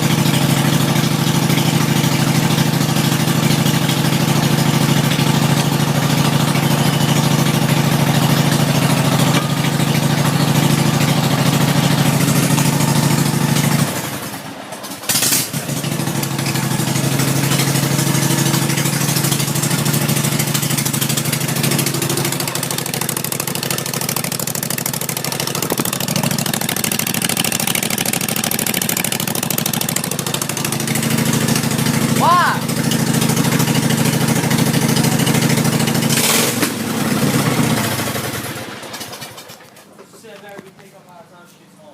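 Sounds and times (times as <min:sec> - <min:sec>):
mower engine running loud: 0:00.0 - 0:40.7.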